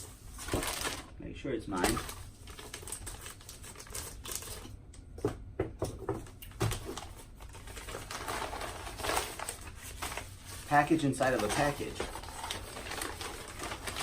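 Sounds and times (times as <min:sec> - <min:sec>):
cardboard and plastic packaging rustling: 0:00.0 - 0:14.0.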